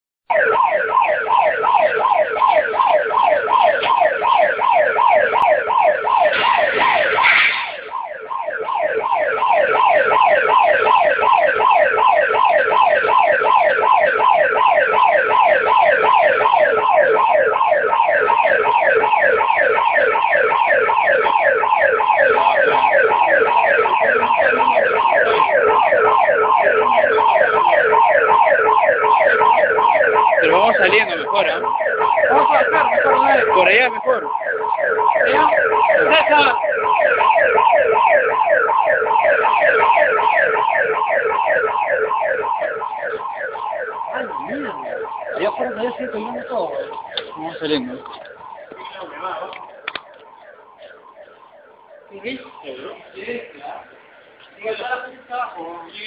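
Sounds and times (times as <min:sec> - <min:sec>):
electronic alarm siren sweeps: 0:00.3 - 0:56.0.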